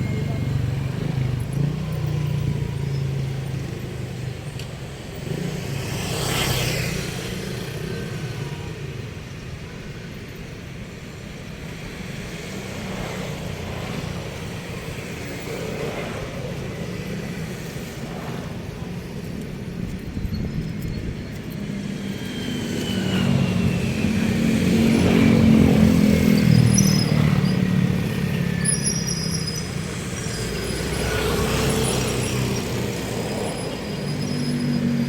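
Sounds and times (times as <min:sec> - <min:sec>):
road traffic rumble: 0:00.0 - 0:35.0
vehicles passing: 0:00.0 - 0:35.0.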